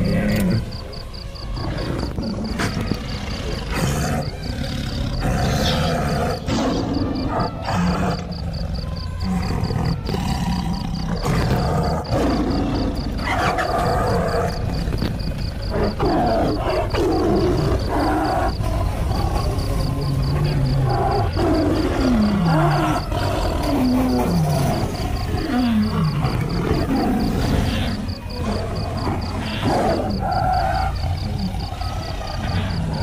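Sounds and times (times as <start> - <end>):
lioness calling: 0.0 - 33.0.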